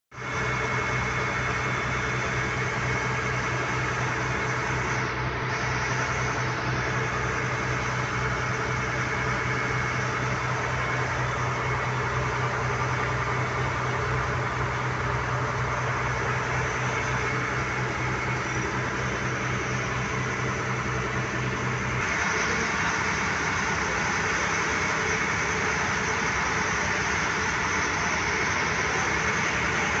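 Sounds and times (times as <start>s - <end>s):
ferry engine low hum: 0.2s - 30.0s.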